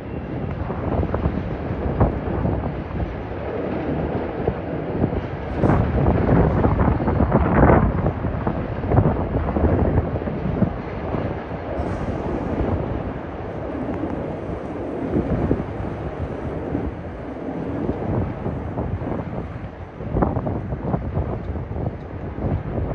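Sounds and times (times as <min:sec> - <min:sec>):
train rumble: 0:00.0 - 0:22.9.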